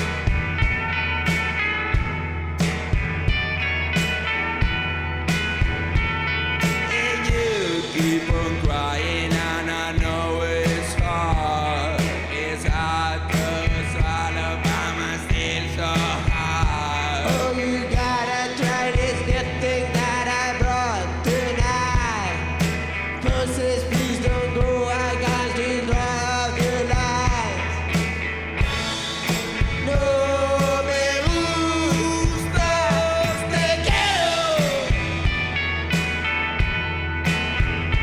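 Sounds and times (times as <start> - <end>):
bass guitar: 0.0 - 38.0
drums: 0.0 - 38.0
electric guitar: 0.0 - 38.0
sung vocals: 5.4 - 36.4.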